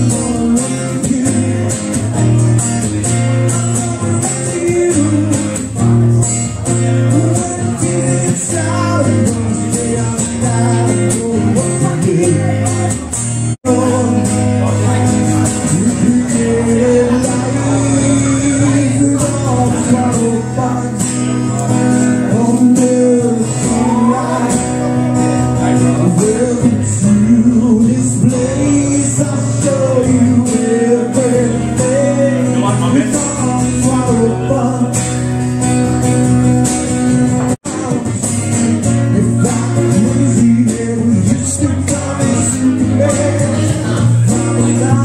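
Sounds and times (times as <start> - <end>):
bass and rhythm section: 0.0 - 45.0
blues guitar with bending notes: 0.0 - 45.0.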